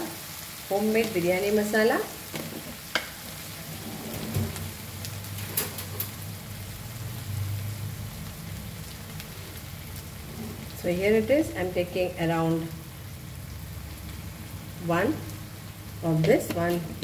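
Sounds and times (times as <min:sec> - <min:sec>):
vegetables frying in hot oil: 0:00.0 - 0:17.0.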